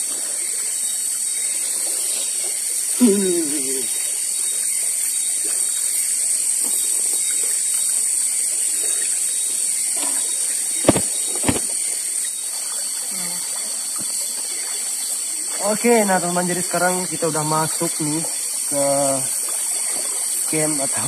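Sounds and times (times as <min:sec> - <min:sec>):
high-pitched outdoor hiss: 0:00.0 - 0:21.0.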